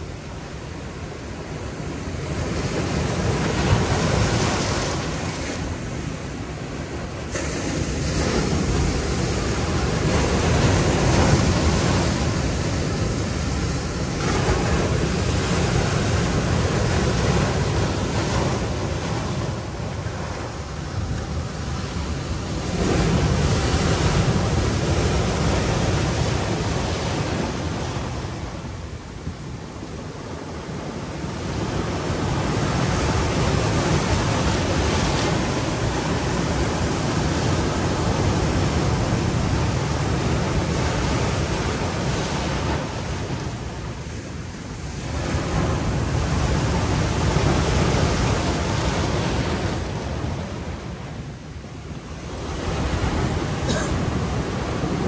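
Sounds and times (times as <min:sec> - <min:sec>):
surf washing among rocks: 0:00.0 - 0:55.0.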